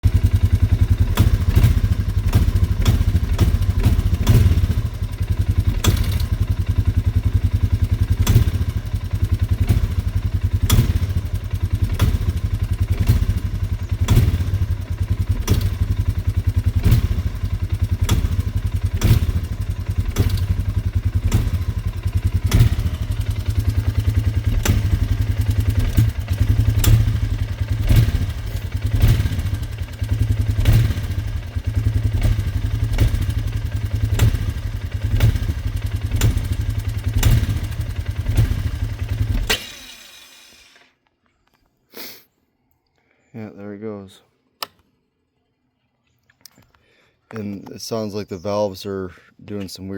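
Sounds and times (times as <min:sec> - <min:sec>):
engine running at low speed: 0:00.0 - 0:40.9.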